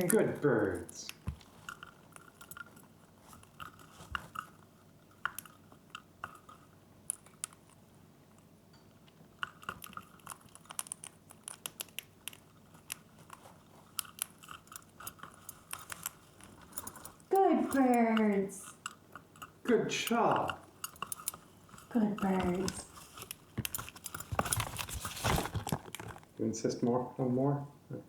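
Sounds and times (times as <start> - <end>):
parrots crunching treats: 0.0 - 26.4.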